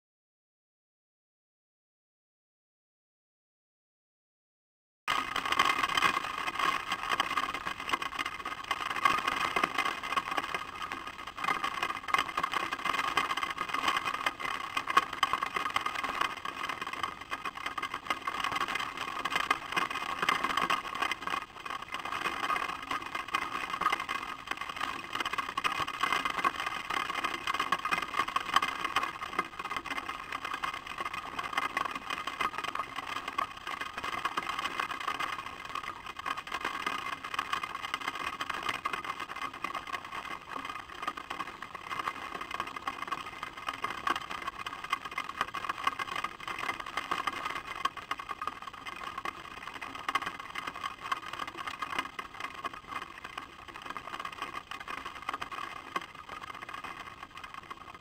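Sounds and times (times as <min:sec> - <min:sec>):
rain patter: 0:05.1 - 0:58.0.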